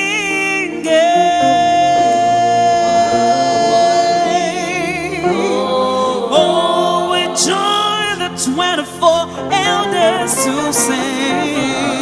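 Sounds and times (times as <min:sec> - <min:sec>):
gospel accompaniment: 0:00.0 - 0:12.0
person singing with vibrato: 0:00.0 - 0:12.0.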